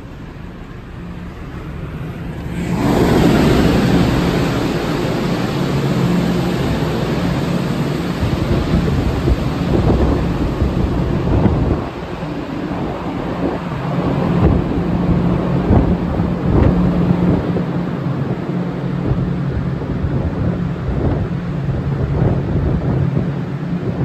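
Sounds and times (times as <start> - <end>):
ship machinery drone: 0.0 - 24.0
wind and rain: 0.0 - 24.0
wind buffeting microphone: 0.0 - 24.0.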